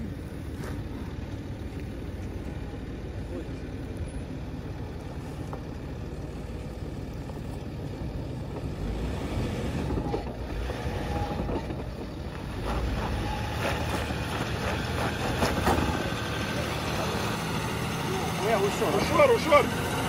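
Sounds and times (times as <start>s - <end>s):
suv engine rumbling: 0.0s - 20.0s.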